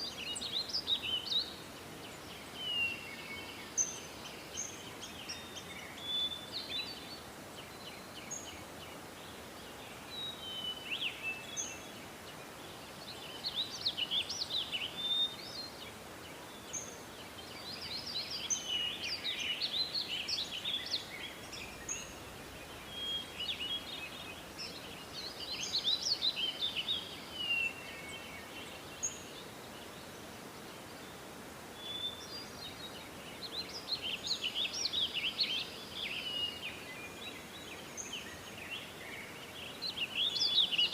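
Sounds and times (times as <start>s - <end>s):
faint steady hiss: 0.0s - 40.9s
songbirds chirping and trilling: 0.0s - 40.9s.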